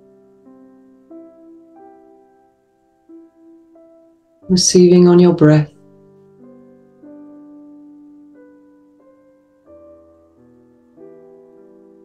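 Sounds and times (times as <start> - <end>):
soft slow piano music: 0.0 - 12.0.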